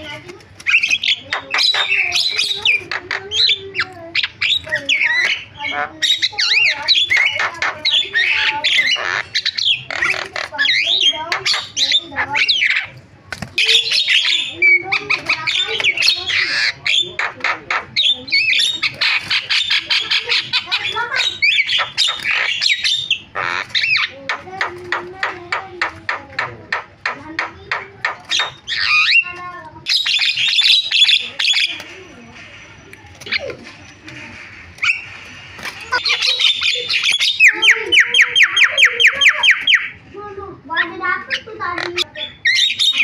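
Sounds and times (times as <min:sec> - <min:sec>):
myna calling: 0:00.0 - 0:40.0
bird singing squawks and whistles: 0:00.6 - 0:12.9, 0:13.6 - 0:24.3, 0:28.0 - 0:40.0, 0:40.8 - 0:43.0.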